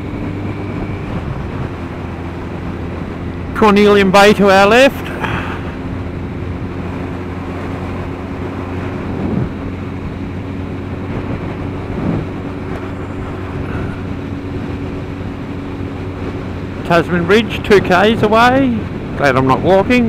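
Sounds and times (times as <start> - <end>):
motorcycle engine droning: 0.0 - 20.0
wind and road rush: 0.0 - 20.0.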